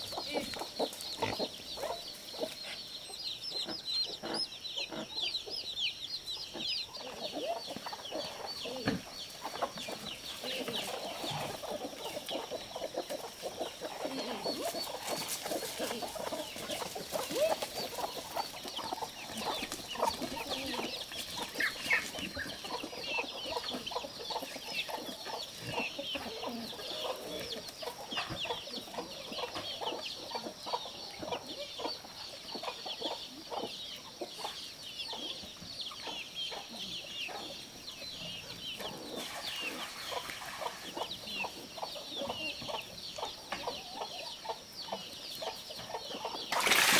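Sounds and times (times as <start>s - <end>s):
chicks peeping: 0.0s - 46.9s
hens clucking: 0.0s - 46.9s.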